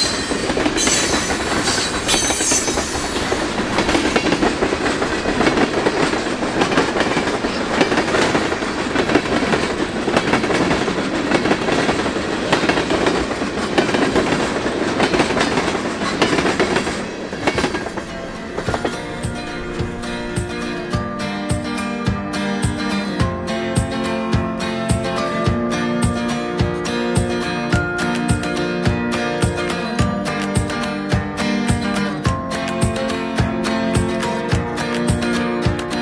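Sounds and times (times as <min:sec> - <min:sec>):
freight train wheels clacking on rails: 0:00.0 - 0:28.8, 0:29.4 - 0:36.0.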